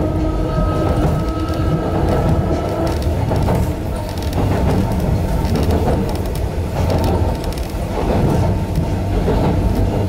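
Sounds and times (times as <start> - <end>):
train wheels and motors rumbling: 0.0 - 10.0.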